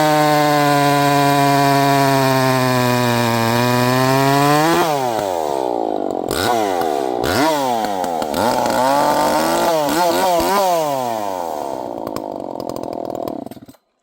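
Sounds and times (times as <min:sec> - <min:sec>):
chainsaw running: 0:00.0 - 0:13.9.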